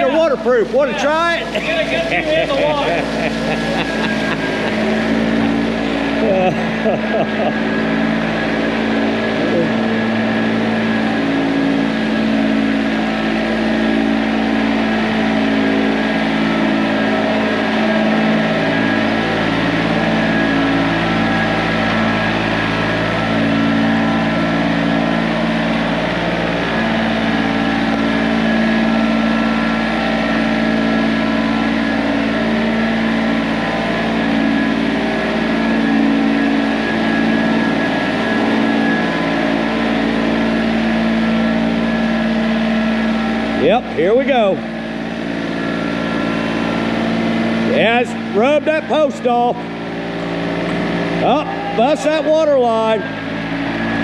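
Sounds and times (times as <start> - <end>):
machine engine running: 0.0 - 54.0.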